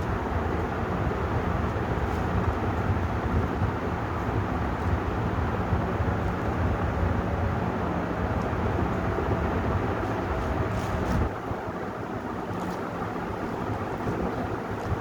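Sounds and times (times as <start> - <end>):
ceiling fan whoosh: 0.0 - 15.0
faint fan hum: 0.0 - 15.0.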